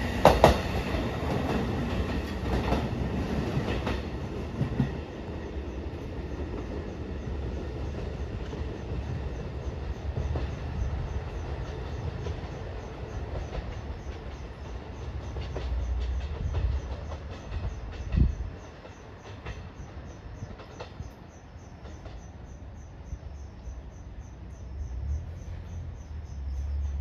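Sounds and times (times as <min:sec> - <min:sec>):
train wheels clacking over rail joints: 0:00.0 - 0:23.1.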